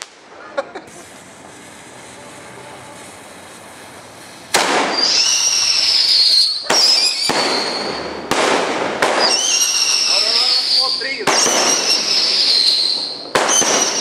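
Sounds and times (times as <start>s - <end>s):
firework whistle and hiss: 0.0s - 14.0s
fireworks cracking: 0.0s - 14.0s.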